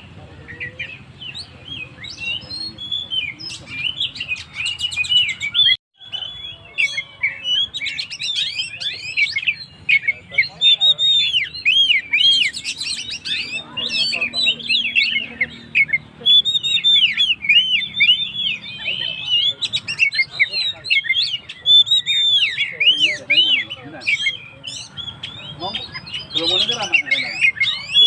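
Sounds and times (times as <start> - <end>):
bird singing whistled notes: 0.0 - 28.0.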